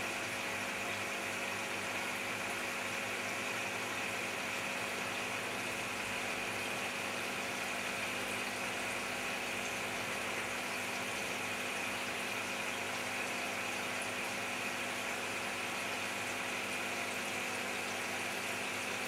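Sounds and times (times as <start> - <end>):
aquarium air pump humming: 0.0 - 19.0.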